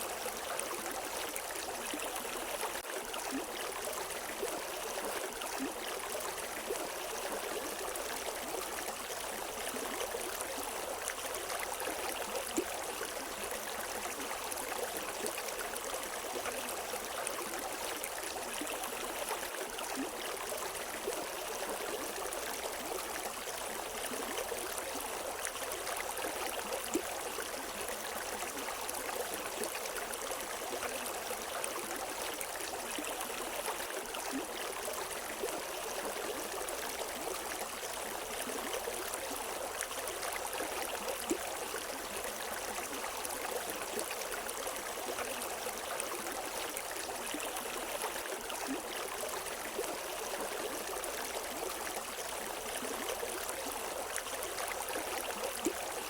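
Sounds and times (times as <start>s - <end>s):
water gurgles and drips: 0.0s - 56.0s.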